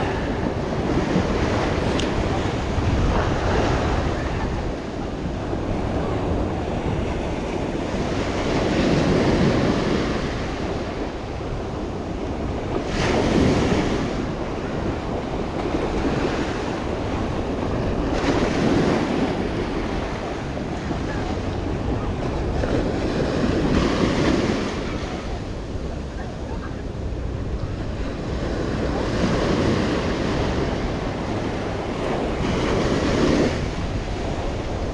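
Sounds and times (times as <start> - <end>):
waves breaking: 0.0 - 34.9
wind rumbling on microphone: 0.0 - 34.9.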